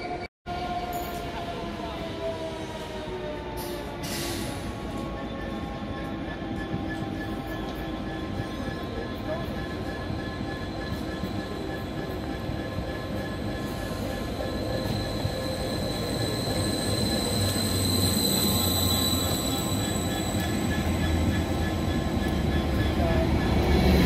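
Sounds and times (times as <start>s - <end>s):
low train hum: 0.0s - 24.0s
train running noise: 0.0s - 24.0s
high brake squeal: 3.6s - 24.0s.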